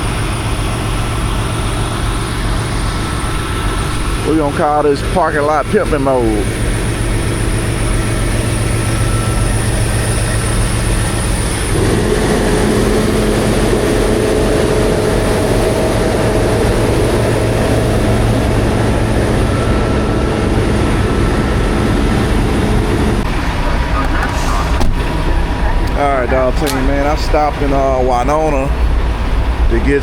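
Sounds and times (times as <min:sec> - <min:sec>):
road noise: 0:00.0 - 0:30.0
truck engine running: 0:00.0 - 0:30.0.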